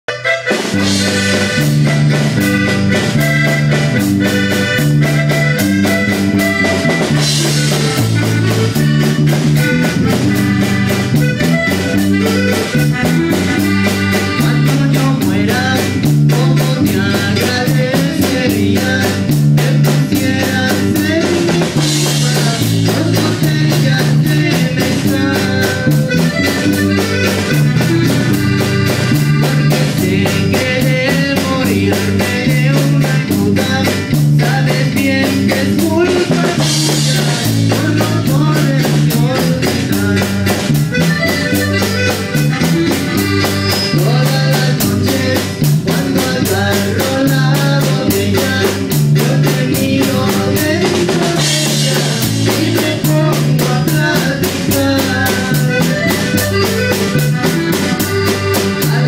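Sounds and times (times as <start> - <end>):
congas: 0.1 - 59.0
electronic keyboard: 0.1 - 59.0
repeating bass line: 0.1 - 59.0.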